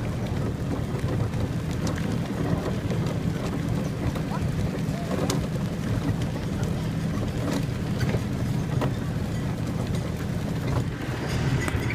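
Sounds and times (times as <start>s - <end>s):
low engine rumble: 0.0s - 11.9s.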